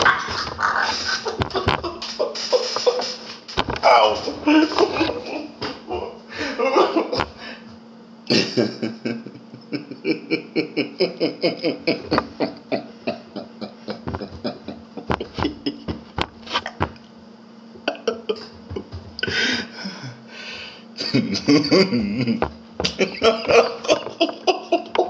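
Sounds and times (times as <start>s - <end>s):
man laughing: 0.0s - 7.6s, 8.3s - 16.9s, 17.8s - 20.2s, 21.0s - 25.0s.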